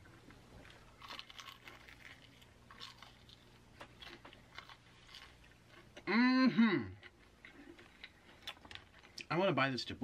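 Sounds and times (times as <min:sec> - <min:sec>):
chewing crunchy fried food: 0:00.0 - 0:06.1, 0:06.9 - 0:09.3.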